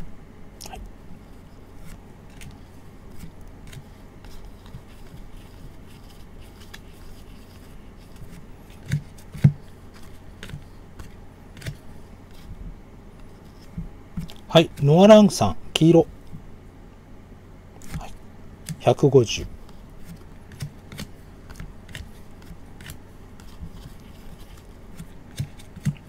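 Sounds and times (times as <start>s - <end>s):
trading cards clicking and scraping: 0.6s - 12.5s, 13.2s - 15.0s, 17.8s - 26.0s.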